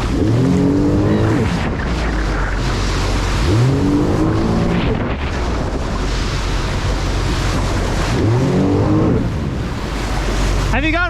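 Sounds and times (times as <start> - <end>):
wind on microphone: 0.0 - 10.8
jet ski engine revving: 0.0 - 11.0
rushing water spray: 0.0 - 11.0.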